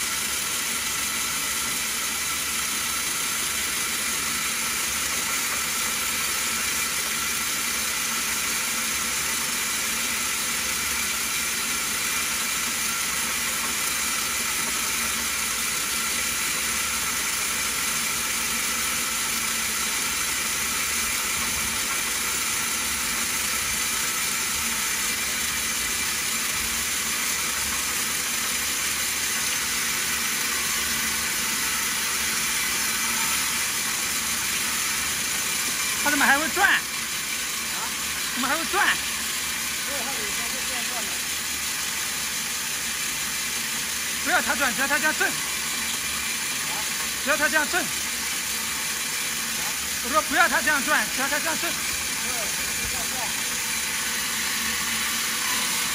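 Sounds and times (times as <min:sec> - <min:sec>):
milling machine whirring: 0:00.0 - 0:55.9.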